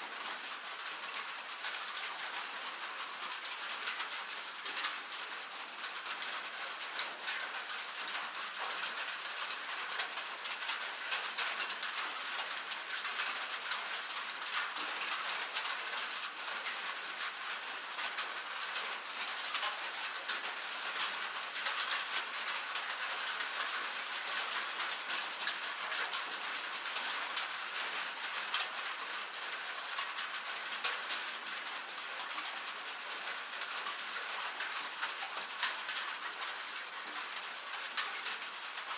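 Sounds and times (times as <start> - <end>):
rain on a metal roof: 0.0 - 38.9.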